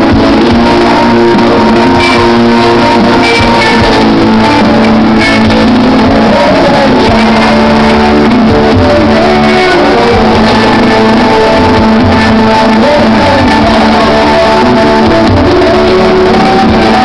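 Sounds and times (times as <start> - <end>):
live band music through pa: 0.0 - 17.0.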